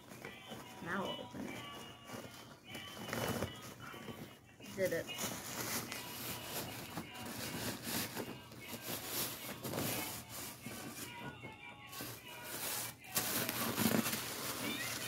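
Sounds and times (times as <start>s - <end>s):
gift bag rustling: 0.0s - 15.0s
plastic bag rustling: 0.0s - 15.0s.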